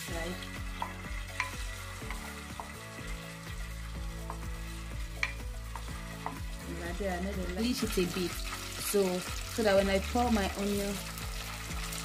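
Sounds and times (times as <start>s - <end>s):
oil sizzling in metal pot: 0.0s - 12.0s.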